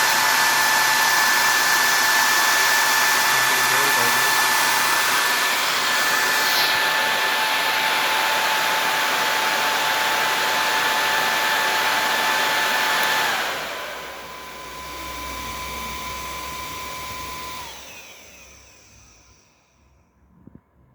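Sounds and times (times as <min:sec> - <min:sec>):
blower fan whining: 0:00.0 - 0:20.6.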